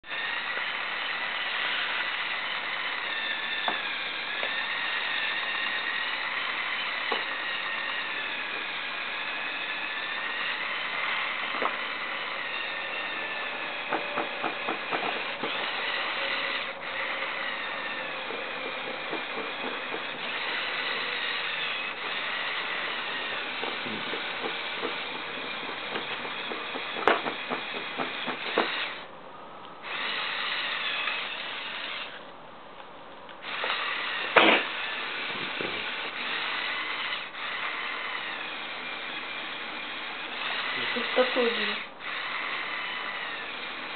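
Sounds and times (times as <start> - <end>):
toy electric motor whine: 0.0 - 29.1, 29.8 - 32.2, 33.4 - 43.9.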